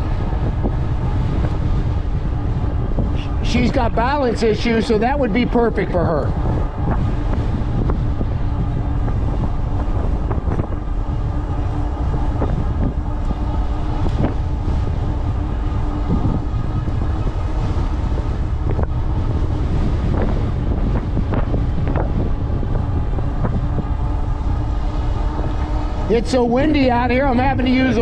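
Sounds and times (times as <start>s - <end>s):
steady hum: 0.0s - 28.0s
wind buffeting microphone: 0.0s - 28.0s.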